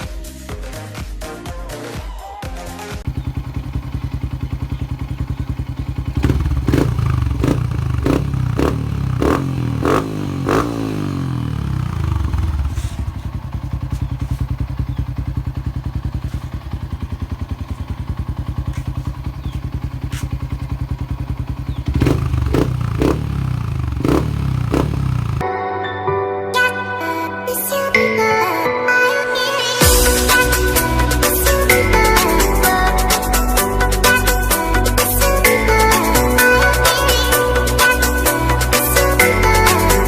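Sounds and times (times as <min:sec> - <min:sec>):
motorcycle engine idling and revving: 0:03.1 - 0:25.5, 0:29.8 - 0:40.0.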